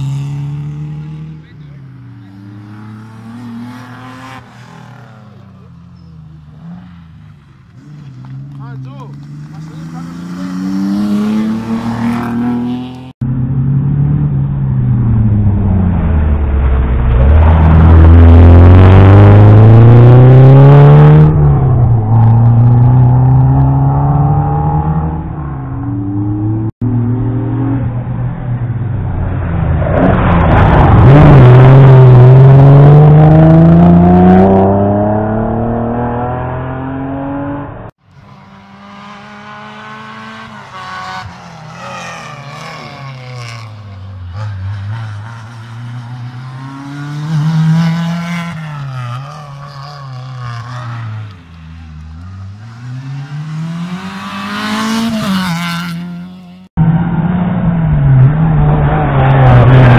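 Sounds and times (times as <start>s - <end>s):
rally cars racing past: 0.0s - 59.9s.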